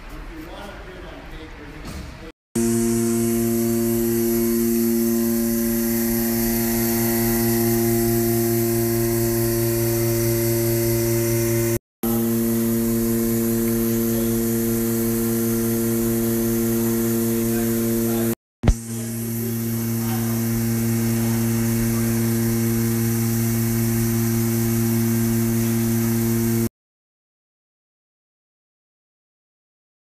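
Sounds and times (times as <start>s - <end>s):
loud steady machine hum: 2.6s - 26.7s.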